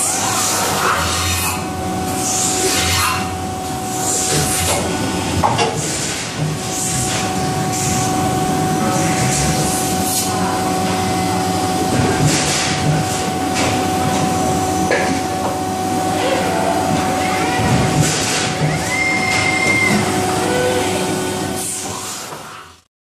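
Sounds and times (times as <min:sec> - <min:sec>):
machine hum with whine: 0:00.0 - 0:22.9.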